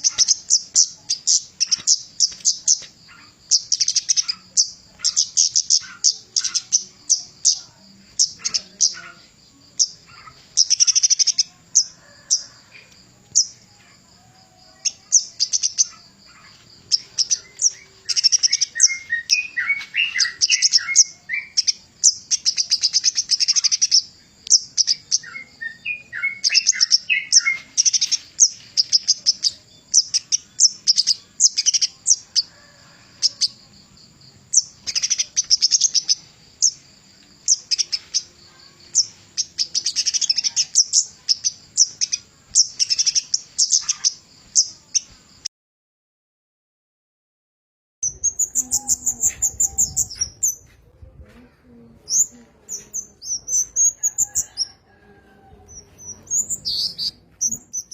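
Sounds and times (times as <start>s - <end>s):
bird trilling high chatter: 0.0s - 13.8s, 14.6s - 33.7s, 34.4s - 45.2s, 48.0s - 50.8s, 52.0s - 57.9s.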